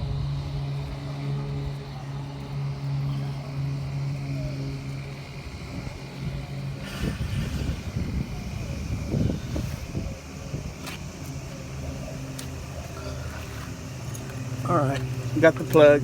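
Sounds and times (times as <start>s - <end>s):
low motor hum: 0.0s - 16.0s
rumbling and rustling handling noise: 0.0s - 16.0s.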